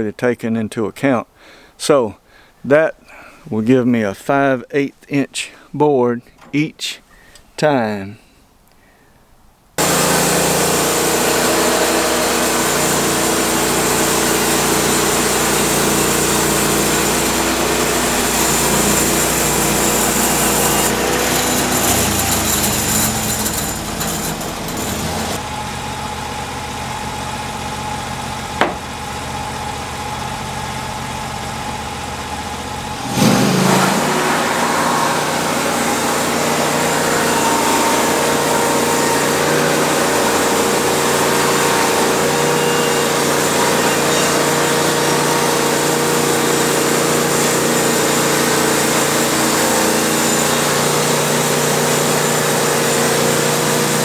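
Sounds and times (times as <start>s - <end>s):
sawmill engine running: 9.8s - 54.0s.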